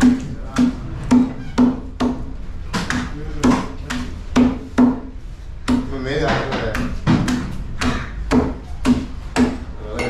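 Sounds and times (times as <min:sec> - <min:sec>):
cleaver chopping on wooden block: 0:00.0 - 0:09.6.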